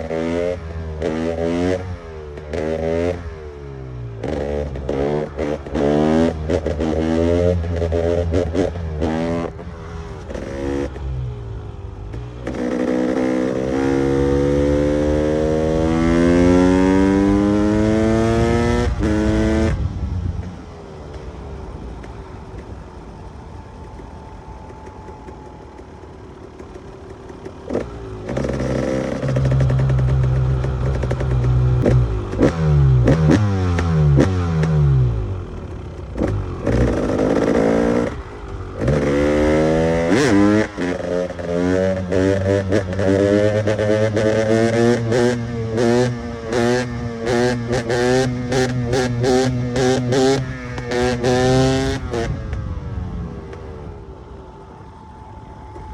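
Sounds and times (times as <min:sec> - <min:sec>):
two-stroke motorcycle engine revving: 0:00.0 - 0:54.8.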